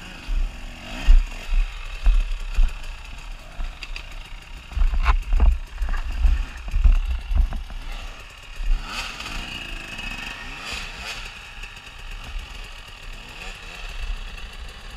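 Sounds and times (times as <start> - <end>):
dirt bike engines revving: 0.0 - 14.9.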